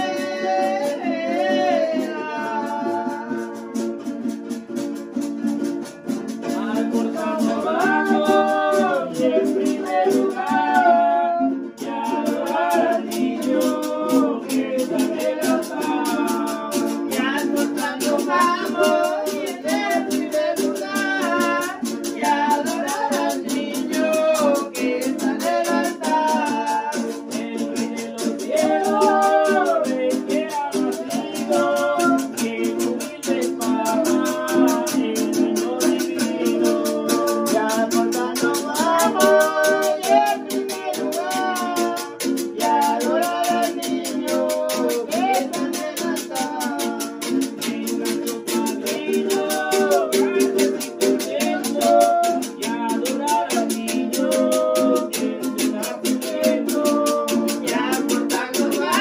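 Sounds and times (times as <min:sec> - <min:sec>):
voices singing together: 0:00.0 - 0:04.6, 0:05.4 - 0:59.0
shaker rhythm: 0:00.0 - 0:59.0
strummed string instruments: 0:00.0 - 0:59.0.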